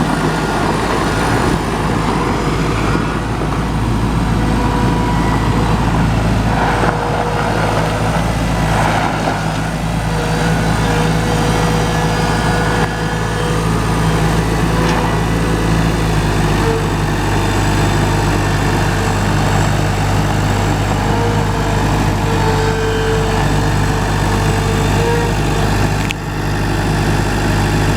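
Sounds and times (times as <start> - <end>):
skid steer engine running: 0.0 - 27.9.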